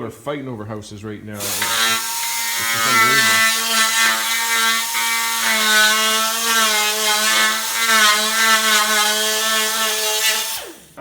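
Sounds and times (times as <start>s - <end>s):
power tool working on metal: 1.4s - 11.0s.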